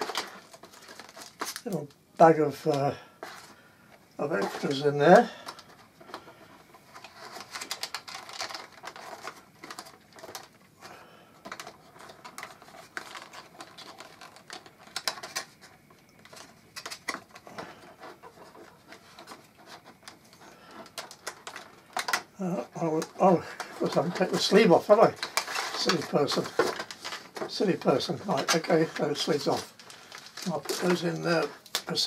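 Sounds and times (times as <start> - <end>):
plastic packaging crinkling: 0.0 - 32.0.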